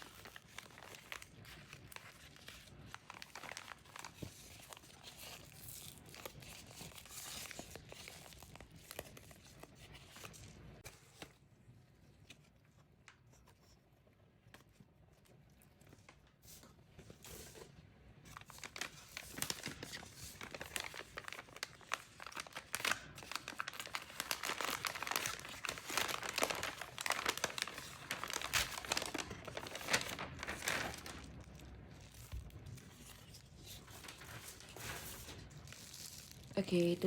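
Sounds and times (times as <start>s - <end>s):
packaging crinkling and tearing: 0.0s - 11.4s, 17.1s - 37.0s.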